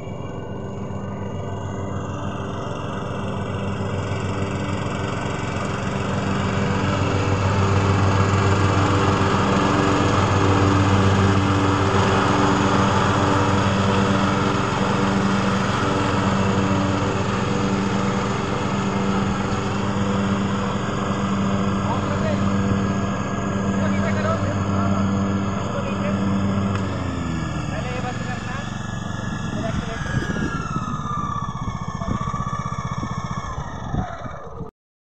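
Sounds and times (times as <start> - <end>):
lawn tractor engine running: 0.0 - 34.7.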